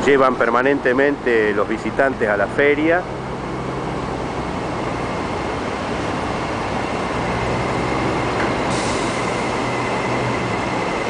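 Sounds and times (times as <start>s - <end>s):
idling diesel engines: 0.0s - 11.0s
traffic noise: 0.0s - 11.0s.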